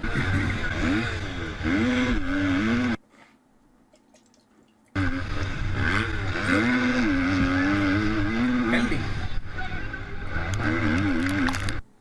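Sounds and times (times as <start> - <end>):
motocross bike engines revving: 0.0 - 3.0, 4.9 - 11.8.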